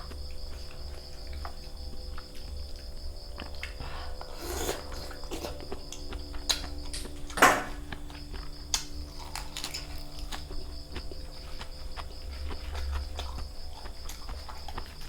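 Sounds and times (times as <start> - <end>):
crickets chirring: 0.0 - 15.0
crunchy eating noise: 0.0 - 15.0.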